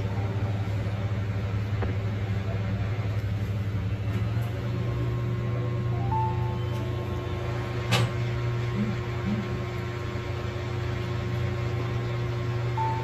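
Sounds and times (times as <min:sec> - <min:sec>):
hot air station hissing hum: 0:00.0 - 0:13.0.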